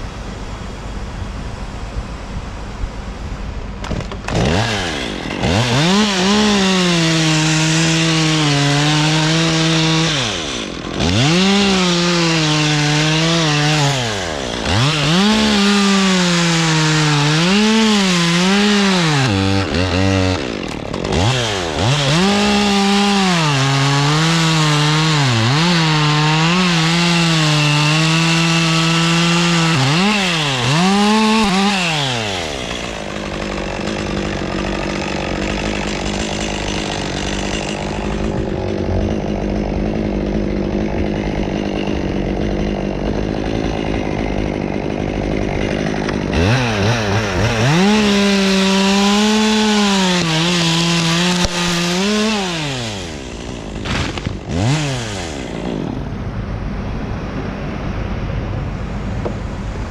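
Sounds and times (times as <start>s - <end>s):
chainsaw cutting and revving: 3.7s - 58.1s.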